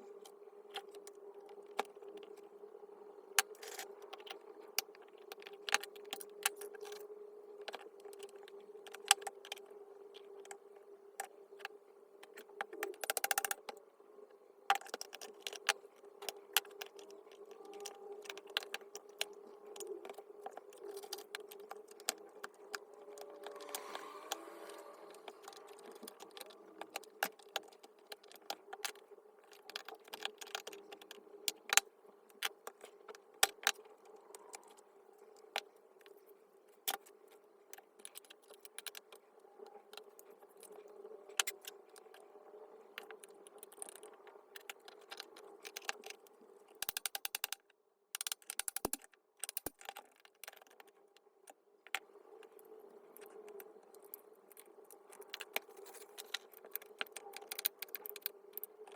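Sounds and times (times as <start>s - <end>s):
faint steady hum: 0.0s - 48.1s, 48.8s - 58.9s.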